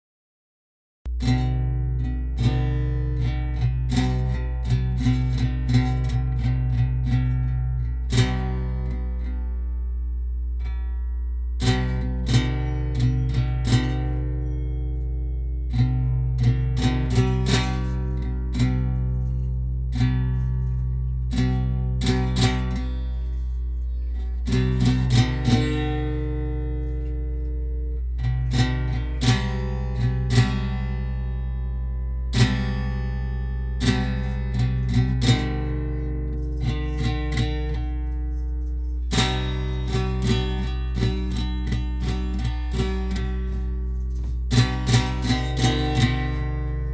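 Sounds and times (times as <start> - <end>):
acoustic guitar picked and strummed: 1.1 - 46.9.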